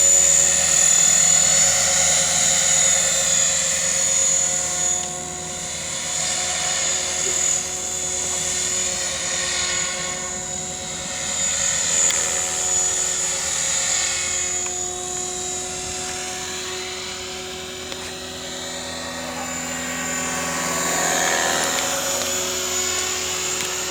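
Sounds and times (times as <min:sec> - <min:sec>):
model helicopter rotor whine: 0:00.0 - 0:23.9.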